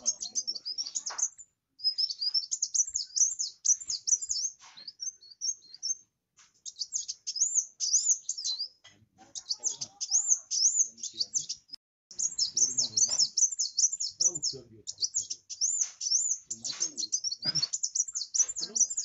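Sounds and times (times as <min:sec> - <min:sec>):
sunbird twittering: 0:00.0 - 0:06.0, 0:06.6 - 0:19.0.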